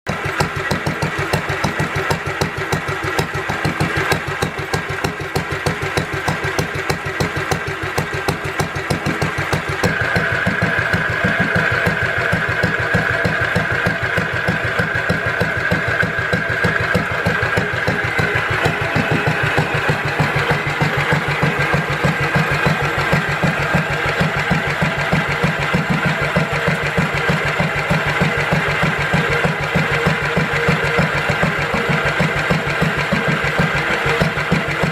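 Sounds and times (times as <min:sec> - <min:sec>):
stationary engine running: 0:00.0 - 0:34.9.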